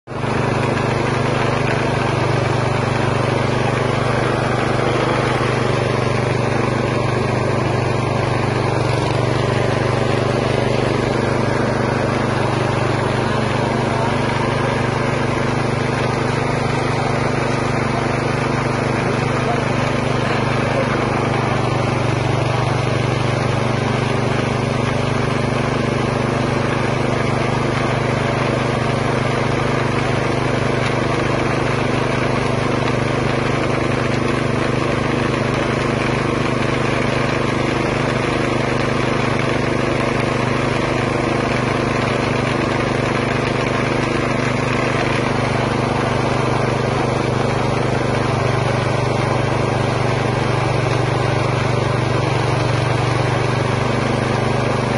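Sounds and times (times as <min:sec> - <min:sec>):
meat grinder motor droning: 0:00.0 - 0:54.9.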